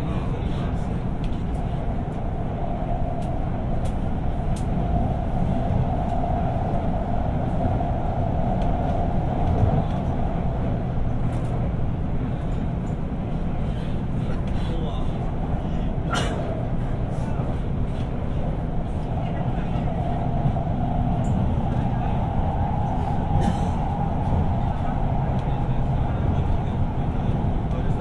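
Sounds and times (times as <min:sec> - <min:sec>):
subway wheels rumbling on rail: 0:00.0 - 0:28.0.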